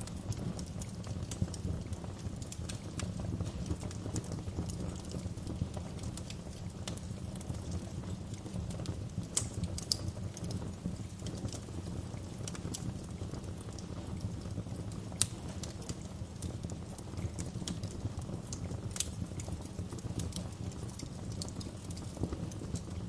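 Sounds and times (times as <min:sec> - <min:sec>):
fire popping: 0:00.0 - 0:23.0
wood fire crackling: 0:00.0 - 0:23.0.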